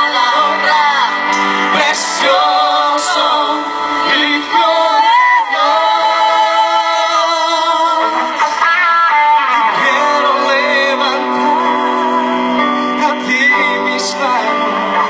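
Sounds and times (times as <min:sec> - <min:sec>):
band accompaniment: 0:00.0 - 0:15.0.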